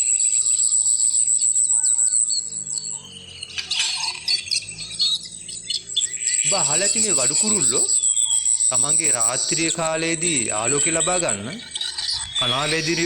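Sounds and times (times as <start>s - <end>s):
weaver birds chirping: 0.0s - 13.0s.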